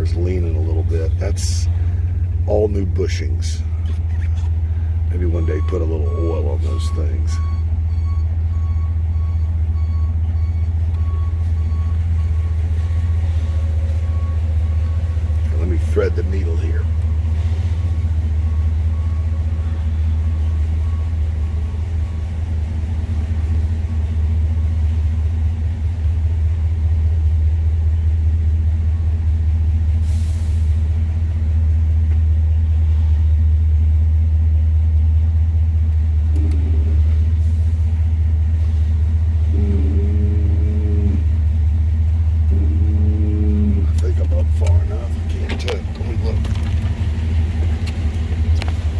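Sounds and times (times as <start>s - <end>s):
car engine low rumble: 0.0s - 48.9s.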